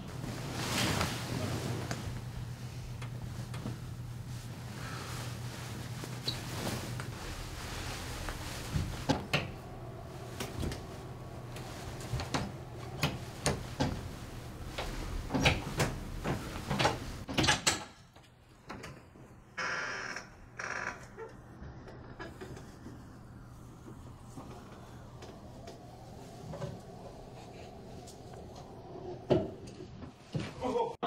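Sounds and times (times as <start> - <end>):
steady low hum: 0.0 - 17.3, 20.3 - 30.3.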